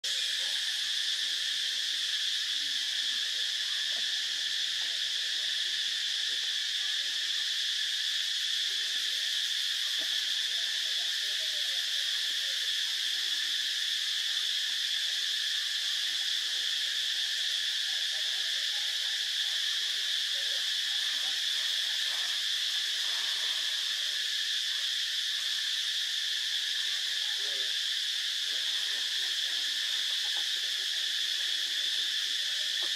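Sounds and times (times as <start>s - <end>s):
shrill insect chorus: 0.0s - 32.9s.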